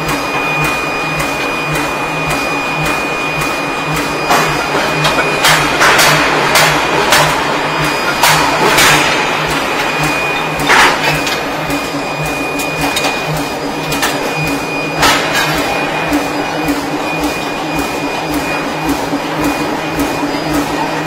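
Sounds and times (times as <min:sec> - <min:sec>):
power hammer striking metal: 0:00.0 - 0:18.8
machinery pulsing hum: 0:00.0 - 0:21.0.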